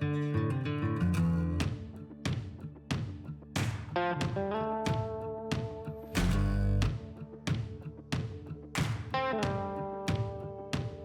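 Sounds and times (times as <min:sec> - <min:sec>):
strummed guitar chords: 0:00.0 - 0:11.0.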